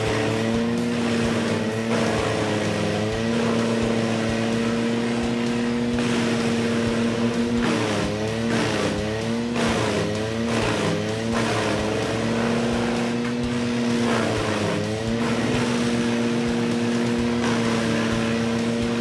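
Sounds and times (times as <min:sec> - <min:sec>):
wood chipper engine running: 0:00.0 - 0:19.0.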